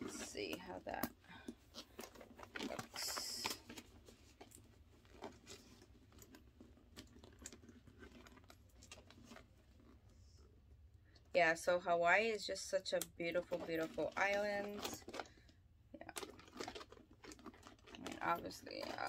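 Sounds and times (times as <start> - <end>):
handbag clicks and rustles: 0.0 - 10.1, 12.8 - 19.0.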